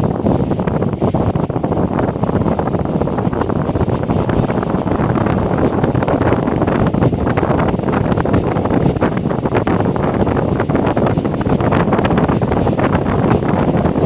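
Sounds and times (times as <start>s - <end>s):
fan wind noise on microphone: 0.0s - 14.0s.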